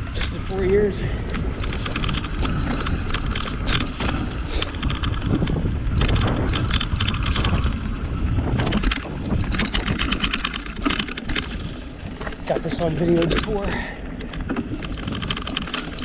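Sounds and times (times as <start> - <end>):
mountain bike rattling over dirt: 0.0 - 16.0
wind buffeting microphone: 0.0 - 16.0.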